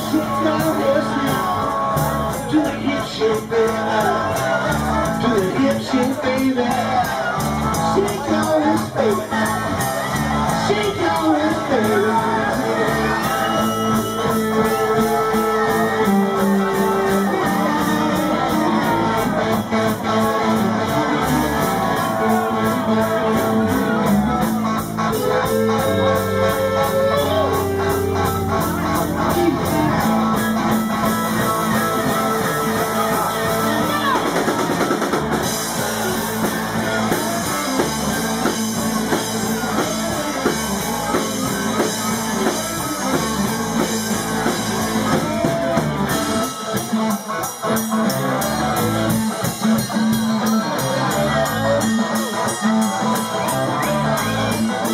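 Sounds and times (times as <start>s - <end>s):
blues-rock band playing: 0.0s - 54.9s
drum kit: 0.0s - 54.9s
electric guitar: 0.0s - 54.9s.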